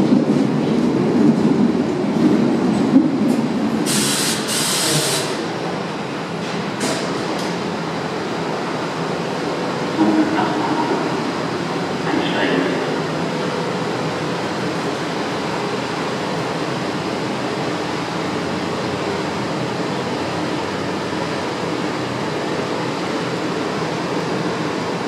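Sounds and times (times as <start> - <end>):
train equipment hum and hiss: 0.0 - 25.0.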